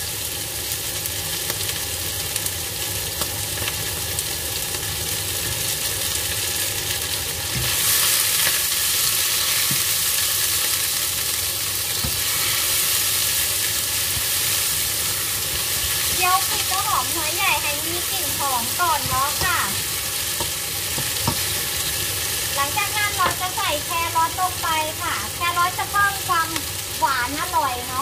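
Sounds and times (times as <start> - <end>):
egg sizzling in hot oil: 0.0 - 28.0.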